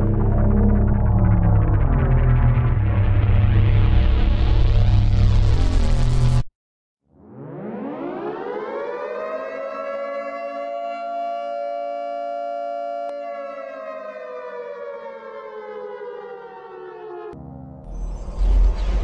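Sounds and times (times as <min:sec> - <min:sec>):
air raid siren wailing: 0:00.0 - 0:04.1, 0:07.4 - 0:19.0.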